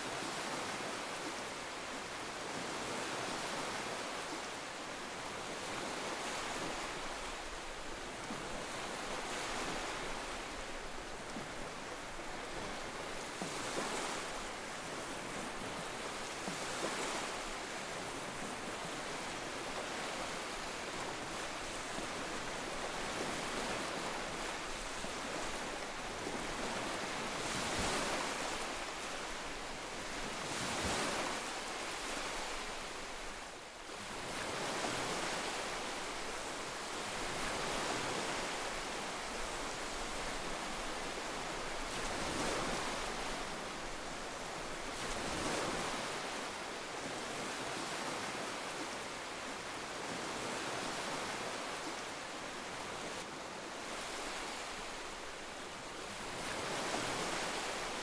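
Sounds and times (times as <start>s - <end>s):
ocean waves over rocks: 0.0s - 58.0s.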